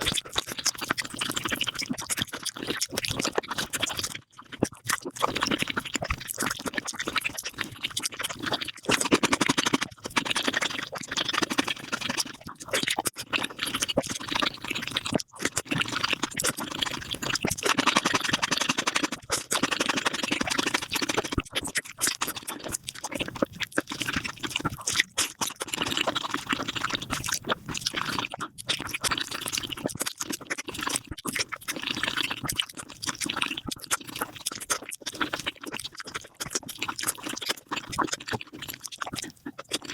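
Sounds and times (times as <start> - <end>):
rapid wet chewing and smacking: 0.0 - 39.9.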